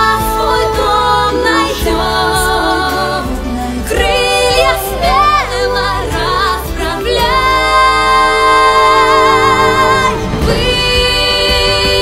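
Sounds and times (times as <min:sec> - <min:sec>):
instrumental backing music: 0:00.0 - 0:12.0
person singing: 0:00.0 - 0:12.0.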